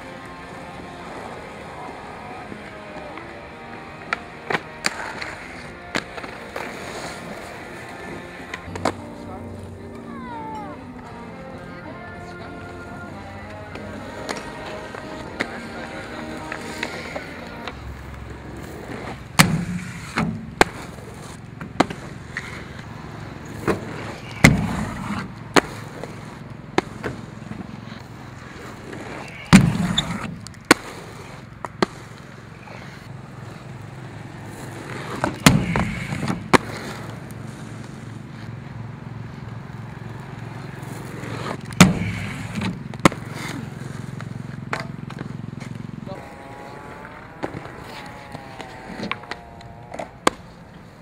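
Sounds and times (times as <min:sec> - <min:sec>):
inline skates rolling on asphalt: 0:00.0 - 0:51.0
skates clacking and grinding on ledges: 0:00.0 - 0:51.0.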